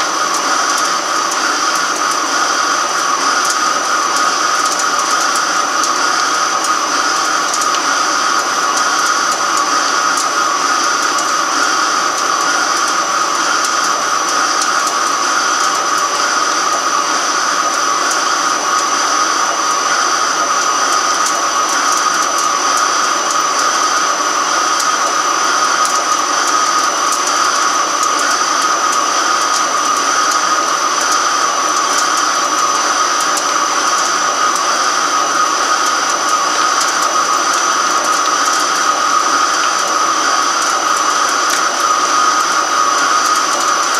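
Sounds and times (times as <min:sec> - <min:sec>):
lathe machining whine: 0:00.0 - 0:43.9.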